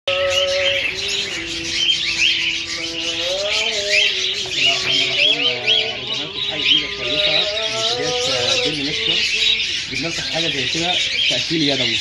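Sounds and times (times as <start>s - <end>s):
cage birds chirping: 0.1s - 12.0s.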